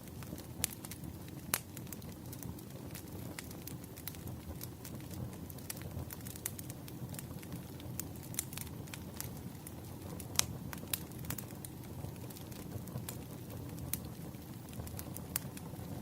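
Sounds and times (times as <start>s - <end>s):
fire crackling and popping: 0.0s - 16.0s
wood fire burning: 0.0s - 16.0s.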